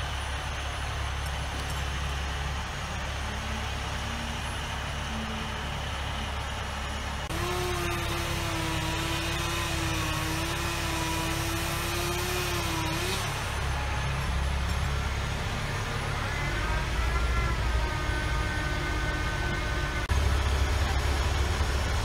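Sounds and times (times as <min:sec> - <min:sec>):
steady whine: 0:00.0 - 0:09.3, 0:13.2 - 0:22.0
crane engine running: 0:00.0 - 0:22.0.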